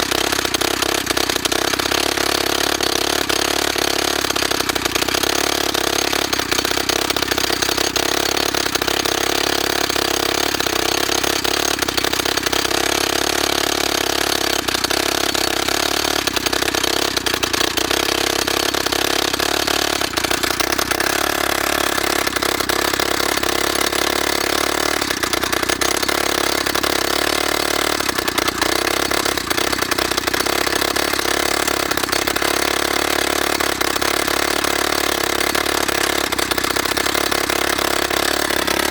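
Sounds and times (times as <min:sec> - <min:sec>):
rock drill running: 0:00.0 - 0:38.9.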